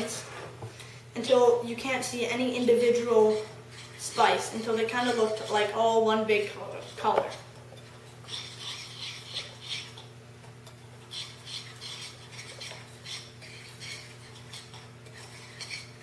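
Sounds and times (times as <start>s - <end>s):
utensil scraping a bowl: 1.8s - 16.0s.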